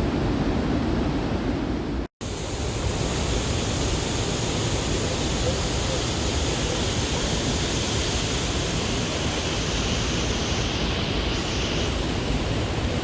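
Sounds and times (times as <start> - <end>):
waterfall roar: 2.2 - 13.0.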